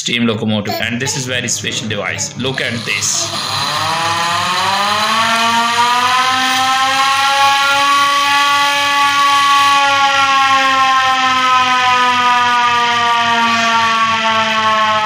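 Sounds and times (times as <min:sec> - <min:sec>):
hand-cranked siren wailing: 0:02.6 - 0:15.0.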